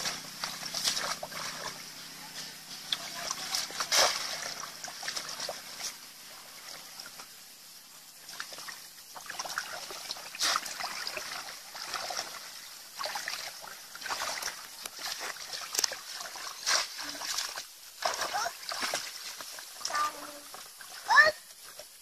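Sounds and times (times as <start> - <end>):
muddy water splashing: 0.0 - 22.0.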